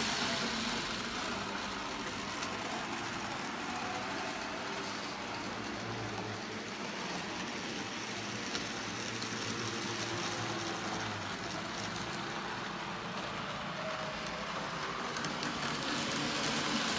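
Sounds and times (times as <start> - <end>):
model train whirring: 0.0 - 16.9.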